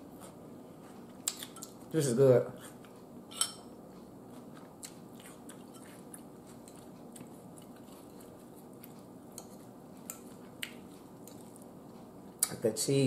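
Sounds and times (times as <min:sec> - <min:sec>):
person chewing food: 0:00.1 - 0:01.9, 0:02.6 - 0:12.5.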